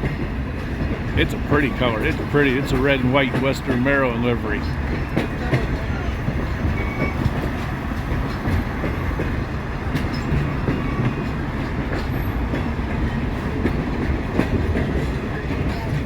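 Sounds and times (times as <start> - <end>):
train coach rumbling on track: 0.0 - 16.0
wheels clicking over rails: 0.0 - 16.0.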